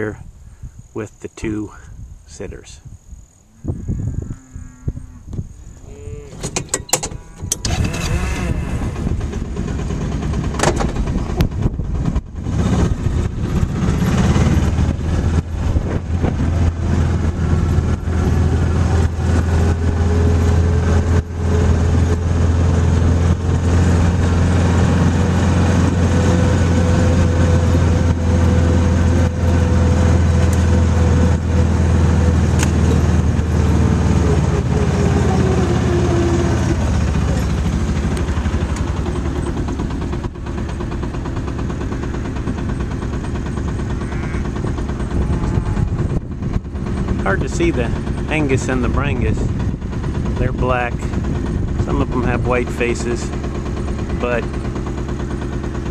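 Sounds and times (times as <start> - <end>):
utility vehicle engine: 3.4 - 55.9.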